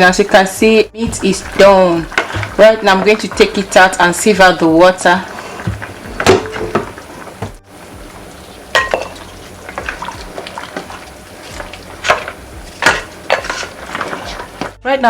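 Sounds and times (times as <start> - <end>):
utensil clinking against pot: 1.2 - 14.8.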